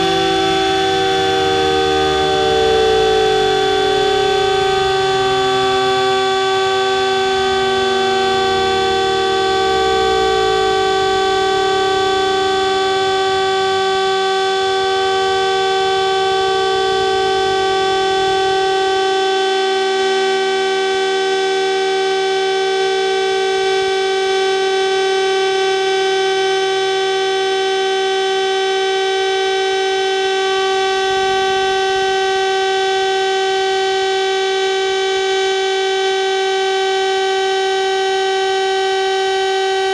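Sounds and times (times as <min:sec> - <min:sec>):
siren steady tone: 0:00.0 - 0:39.9
siren winding down: 0:00.0 - 0:39.9.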